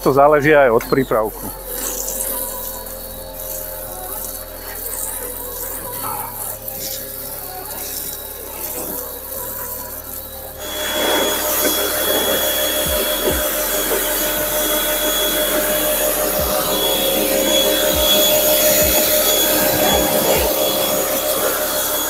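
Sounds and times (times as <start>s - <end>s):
pressure washer motor whine: 0.0s - 22.0s
water jet spraying on car: 0.0s - 22.0s.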